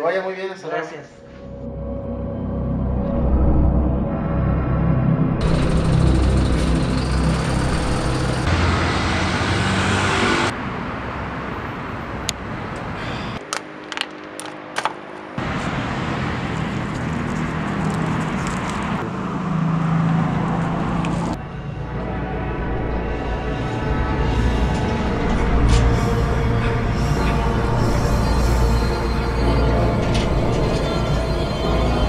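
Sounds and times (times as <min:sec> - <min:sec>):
street traffic: 0:05.4 - 0:32.0.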